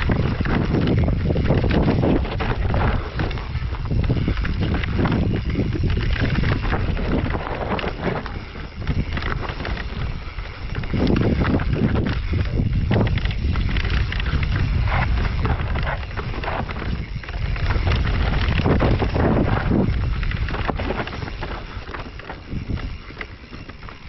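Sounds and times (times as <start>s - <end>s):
bike knocks and rattles: 0.0s - 24.0s
bike tyres over roots and stones: 0.0s - 24.0s
wind buffeting microphone: 0.0s - 24.0s.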